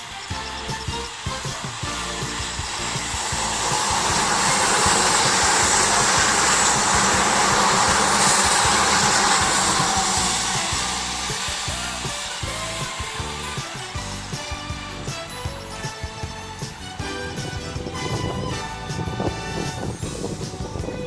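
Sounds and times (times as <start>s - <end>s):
background music: 0.0s - 21.0s
electric train passing: 0.0s - 21.0s.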